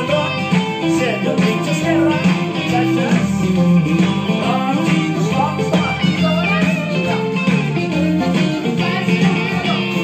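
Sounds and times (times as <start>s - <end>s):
country music with guitar: 0.0s - 10.0s.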